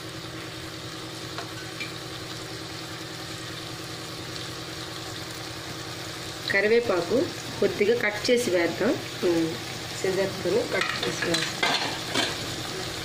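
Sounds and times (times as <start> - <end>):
spices sizzling in a pan: 0.0 - 13.0.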